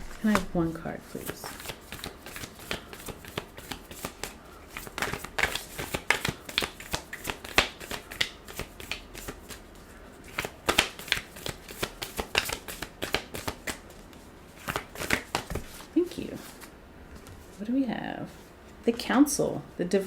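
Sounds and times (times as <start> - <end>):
cards being shuffled: 0.0 - 17.6.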